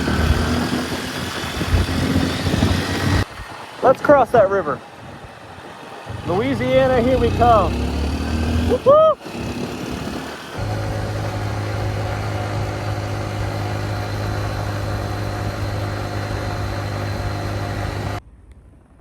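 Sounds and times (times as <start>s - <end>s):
motorcycle engine cruising: 0.0s - 18.2s
wind and road noise: 0.0s - 19.0s.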